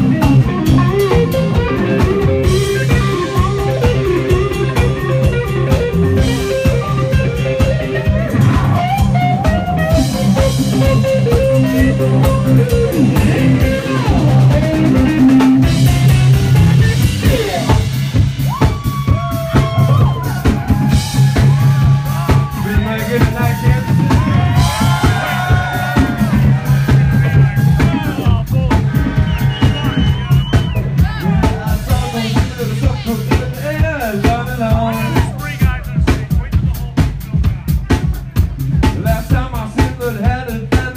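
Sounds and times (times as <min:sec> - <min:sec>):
electric guitar bending notes: 0:00.0 - 0:35.5
blues-rock band playing: 0:00.0 - 0:40.9.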